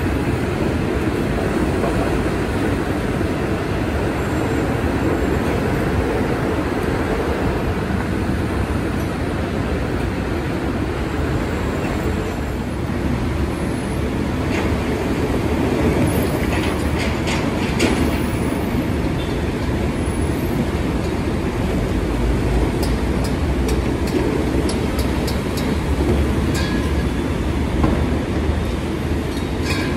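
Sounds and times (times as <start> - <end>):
road traffic rumble: 0.0 - 29.9.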